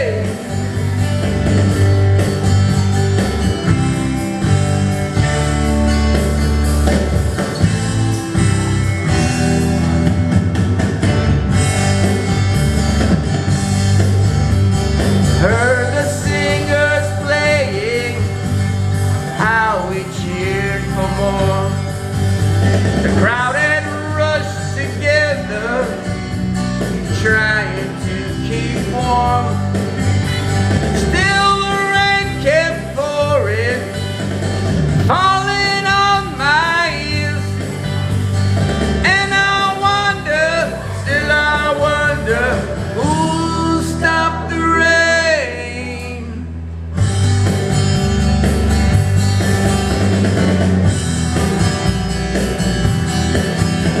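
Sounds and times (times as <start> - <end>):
country rock band playing: 0.0 - 54.0
sliding lead guitar line: 0.0 - 54.0.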